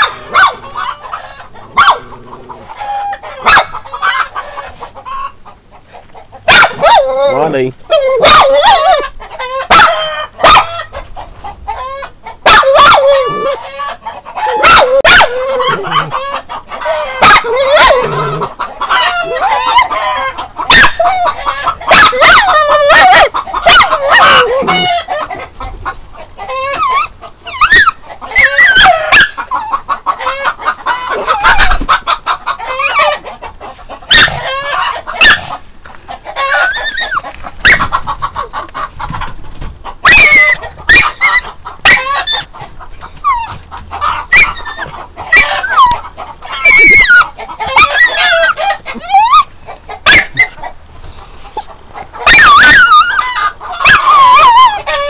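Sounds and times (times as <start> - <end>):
chickens clucking and cackling: 0.0 - 55.0.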